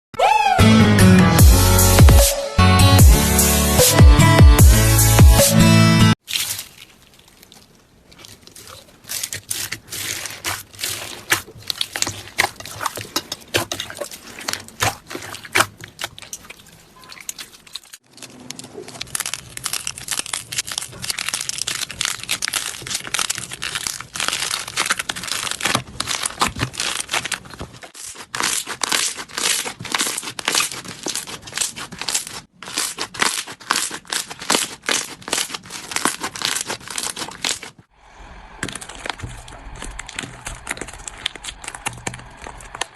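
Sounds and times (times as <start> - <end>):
slime squeezed crackling: 6.2 - 42.9.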